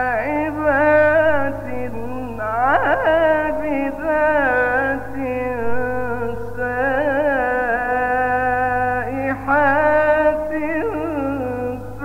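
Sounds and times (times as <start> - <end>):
man reciting melodically: 0.0 - 12.0
low hum: 0.1 - 12.0.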